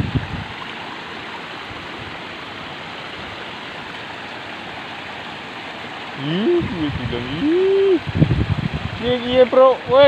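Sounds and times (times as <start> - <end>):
water rushing in a ditch: 0.0 - 10.0.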